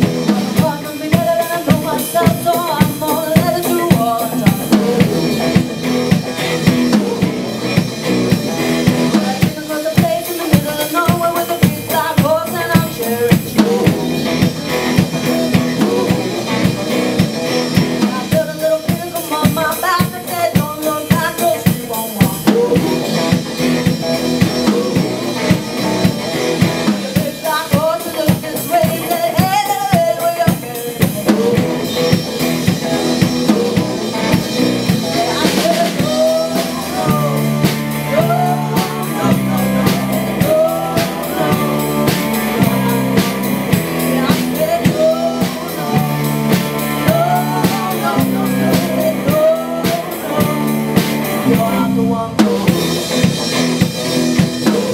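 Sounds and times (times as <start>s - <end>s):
woman singing: 0.0s - 5.7s, 8.8s - 23.4s, 24.4s - 26.2s, 26.8s - 53.6s, 54.4s - 54.9s
live band playing: 0.0s - 54.9s.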